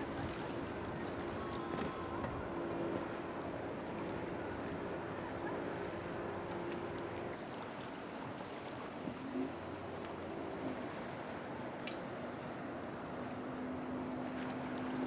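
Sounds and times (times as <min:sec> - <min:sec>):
boat engine humming: 0:00.0 - 0:15.0
wind: 0:00.0 - 0:15.0.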